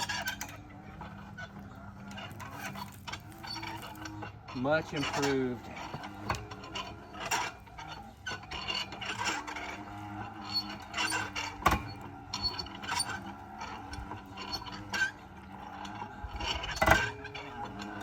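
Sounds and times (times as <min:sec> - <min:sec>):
metal scraping: 0:00.0 - 0:18.0.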